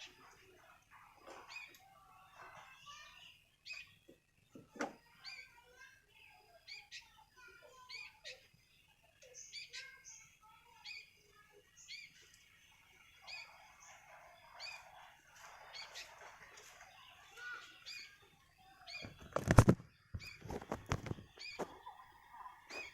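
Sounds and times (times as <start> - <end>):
bird chattering: 0.0 - 4.1, 5.1 - 12.3, 12.9 - 22.9.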